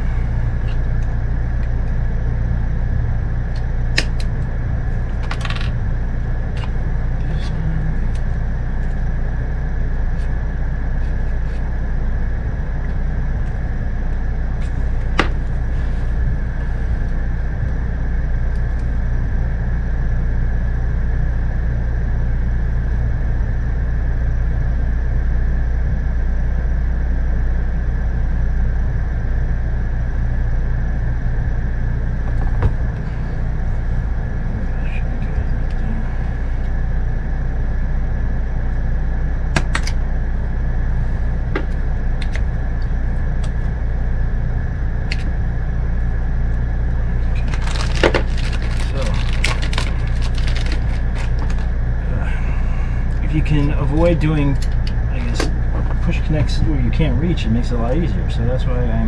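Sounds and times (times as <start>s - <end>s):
faint high whine: 0.0s - 59.0s
low machine drone: 0.0s - 59.0s.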